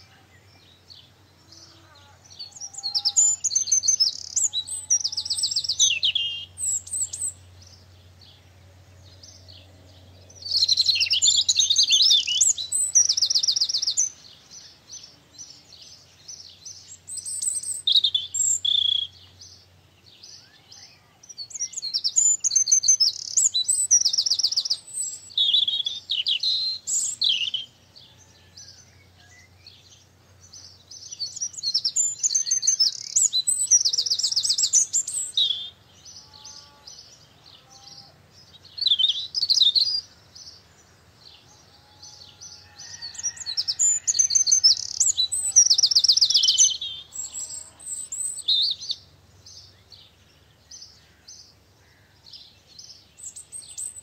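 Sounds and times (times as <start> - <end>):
songbird trills and warbles: 0.0 - 54.0.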